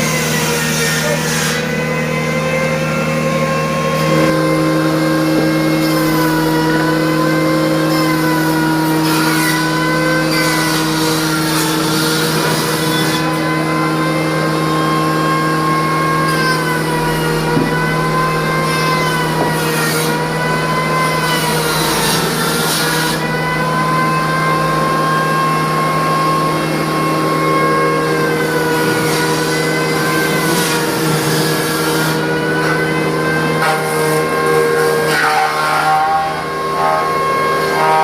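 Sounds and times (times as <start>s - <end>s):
band sawmill sawing: 0.0s - 38.0s.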